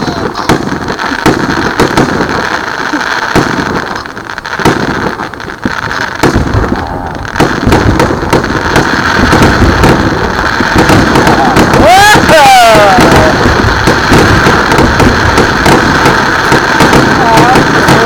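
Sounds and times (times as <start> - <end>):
fireworks booming and crackling: 0.0 - 18.0.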